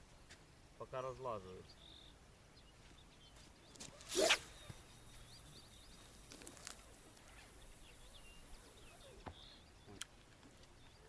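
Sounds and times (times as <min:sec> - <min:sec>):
faint bird chirps: 0:01.0 - 0:10.1.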